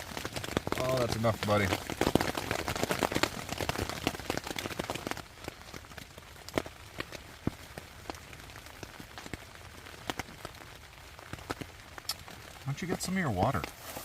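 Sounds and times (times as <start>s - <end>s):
raindrops hitting a tent: 0.0s - 14.0s.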